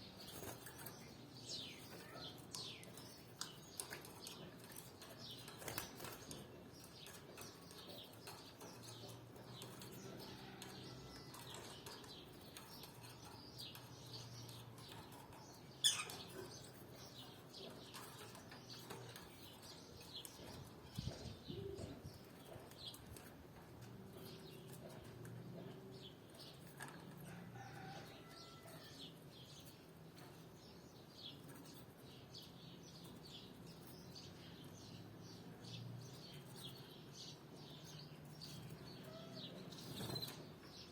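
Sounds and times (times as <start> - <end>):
canaries chirping: 0.0 - 40.9.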